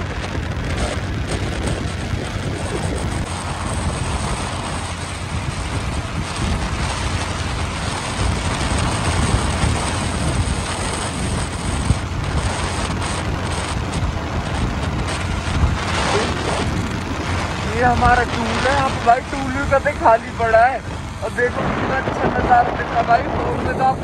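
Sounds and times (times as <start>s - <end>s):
motorcycle engine and road noise: 0.0s - 24.0s
wind rushing on microphone: 0.0s - 24.0s.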